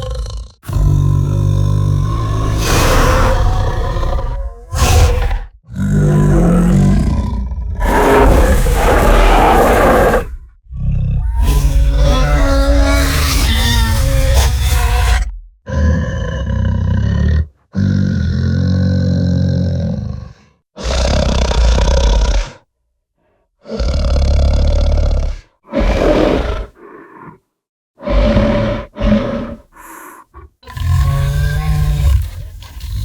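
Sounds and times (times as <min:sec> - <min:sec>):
monster roars and growls: 0:00.0 - 0:22.6, 0:23.7 - 0:27.4, 0:28.0 - 0:33.0.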